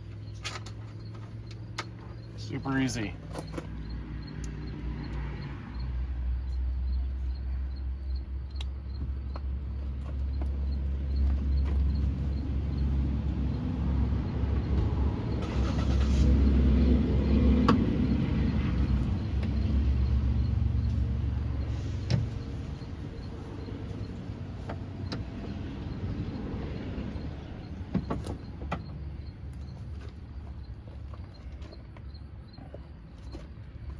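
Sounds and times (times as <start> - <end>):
motor vehicle rumble: 0.0 - 33.9.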